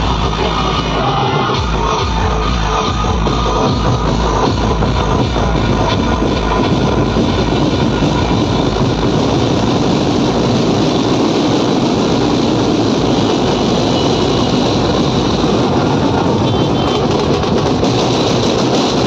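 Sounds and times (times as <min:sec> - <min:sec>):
large drums: 0:00.0 - 0:19.0
loudspeaker sound system: 0:00.0 - 0:19.0
street band playing: 0:00.0 - 0:19.0.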